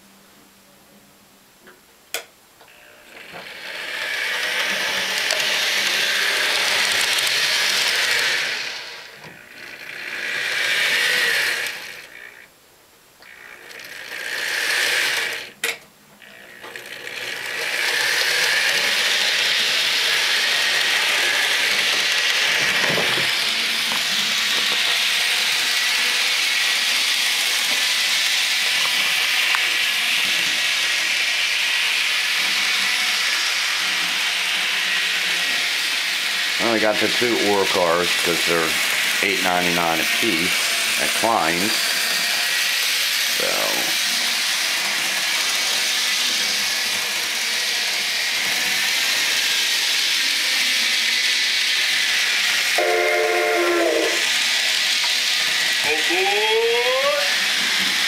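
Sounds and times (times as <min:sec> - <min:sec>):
model train motor whirring: 0:02.2 - 0:12.5, 0:13.2 - 0:58.0.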